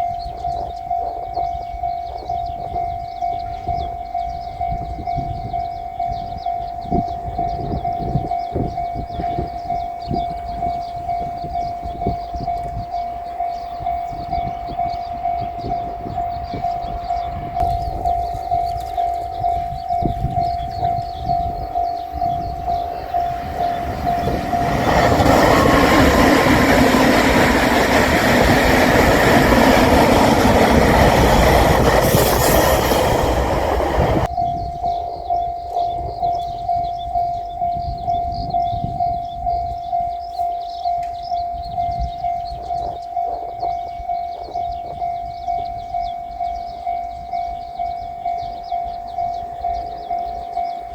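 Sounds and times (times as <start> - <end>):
electric train passing: 0.0 - 50.9
level crossing bell ringing: 0.0 - 50.9.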